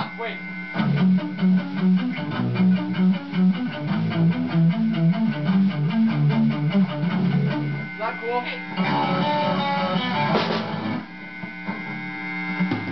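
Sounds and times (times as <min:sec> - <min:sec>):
electric guitar riff: 0:00.0 - 0:12.9.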